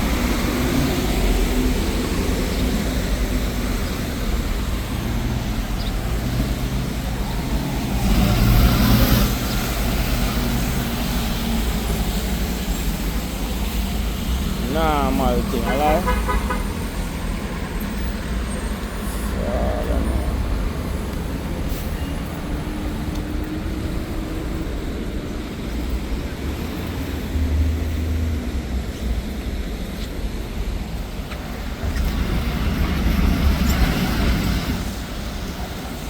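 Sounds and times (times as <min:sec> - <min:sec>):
passing vehicles rumbling: 0:00.0 - 0:36.0.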